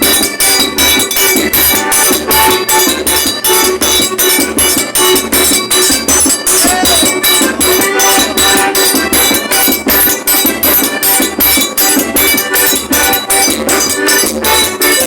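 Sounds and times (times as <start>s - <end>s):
accordion: 0.0s - 15.0s
bass drum beat: 0.0s - 15.0s.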